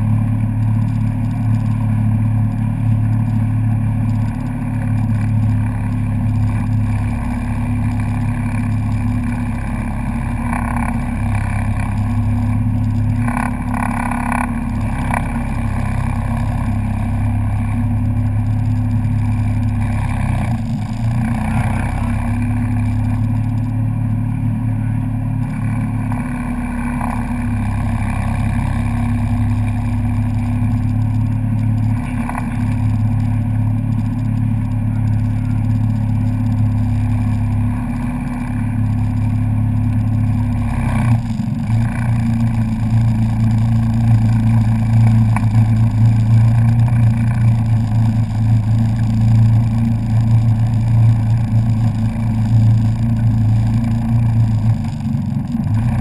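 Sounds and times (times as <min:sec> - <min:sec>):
personal watercraft engine: 0:00.0 - 0:56.0.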